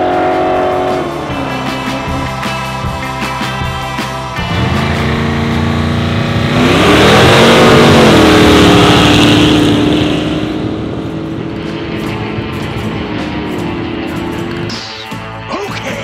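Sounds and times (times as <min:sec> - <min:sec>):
drag car engine at full throttle: 0:00.0 - 0:15.2.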